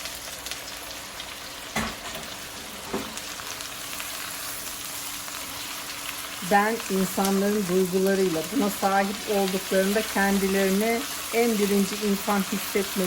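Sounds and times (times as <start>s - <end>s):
food sizzling in a hot pan: 0.0s - 13.0s.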